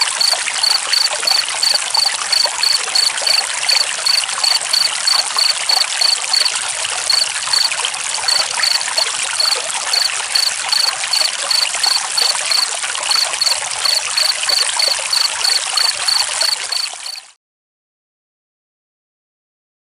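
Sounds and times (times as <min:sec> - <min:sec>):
cricket chirping: 0:00.0 - 0:17.3
running water stream: 0:00.0 - 0:17.4.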